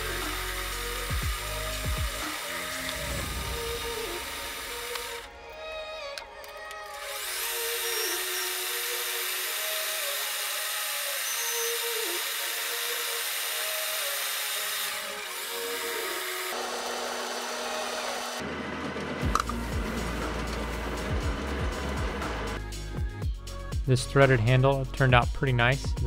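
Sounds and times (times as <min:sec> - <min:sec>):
metal lathe running: 0:00.0 - 0:05.3, 0:07.0 - 0:22.6
background music: 0:00.0 - 0:26.0.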